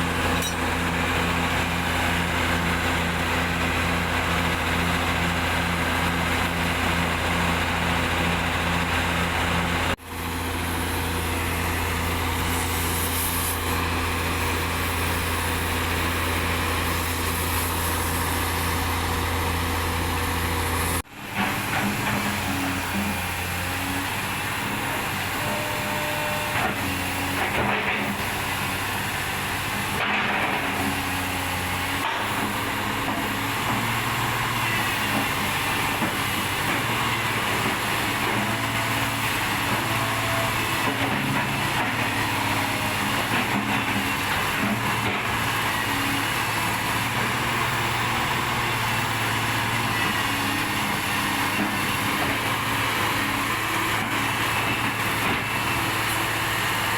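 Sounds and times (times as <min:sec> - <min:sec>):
large engine humming: 0:00.0 - 0:56.9.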